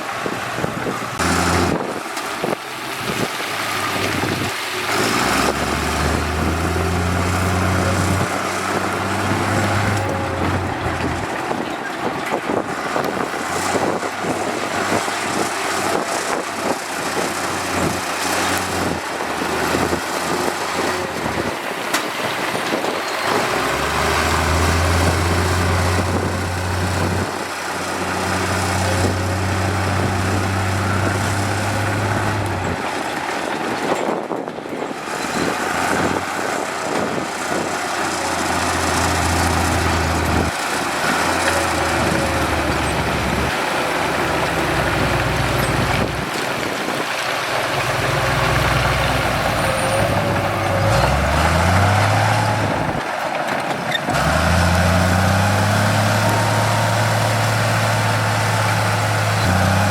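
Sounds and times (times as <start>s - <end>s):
diesel engine drone: 0.0s - 59.9s
machinery rumble: 0.0s - 59.9s.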